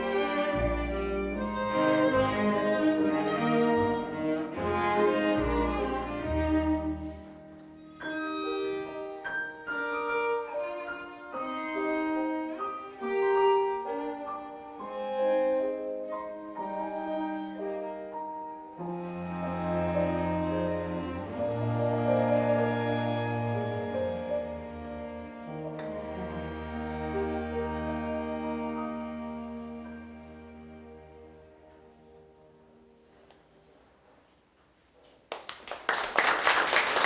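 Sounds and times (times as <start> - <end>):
violin: 0.0 - 33.4
cello: 0.0 - 33.6
piano: 0.0 - 37.0.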